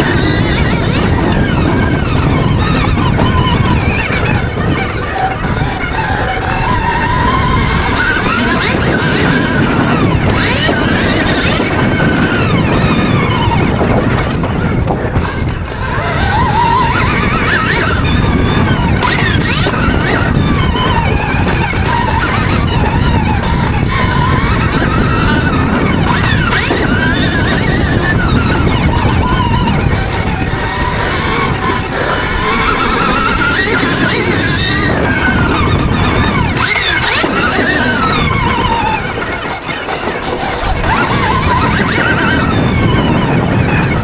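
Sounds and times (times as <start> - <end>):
electric motorbike motor whining: 0.0 - 44.0.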